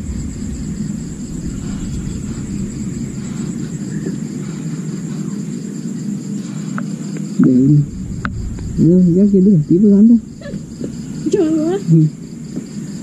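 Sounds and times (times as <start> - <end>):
low rumble: 0.0 - 5.4, 7.4 - 13.0
insects trilling: 0.0 - 13.0.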